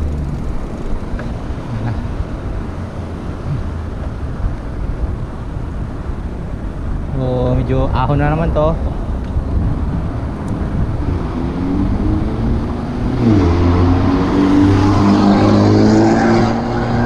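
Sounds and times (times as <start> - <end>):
motor vehicle engine hum: 0.0 - 17.0
wind and road rumble: 0.0 - 17.0.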